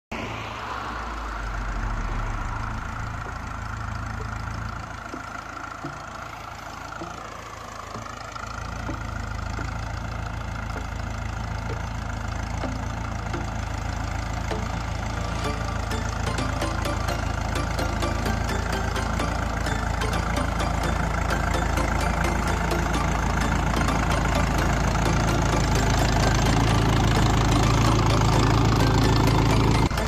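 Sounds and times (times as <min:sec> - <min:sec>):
tractor diesel engine: 0:00.1 - 0:30.0.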